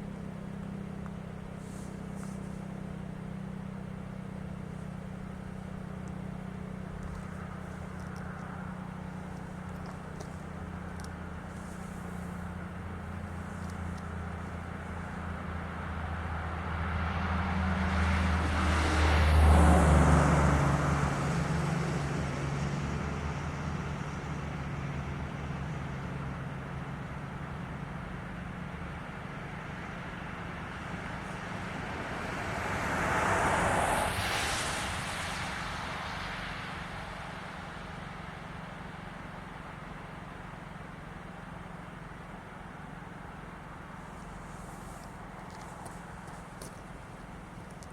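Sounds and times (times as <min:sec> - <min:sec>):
road vehicle passing: 0:00.0 - 0:47.9.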